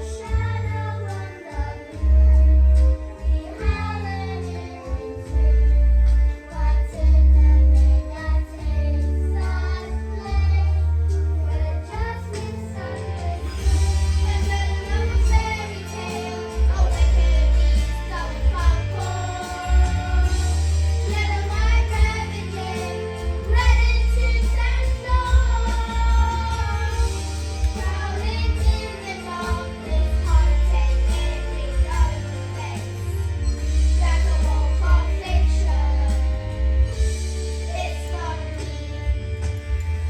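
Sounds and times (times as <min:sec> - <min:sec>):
children singing: 0:00.0 - 0:36.6
backing music with pulsing bass: 0:00.0 - 0:40.0.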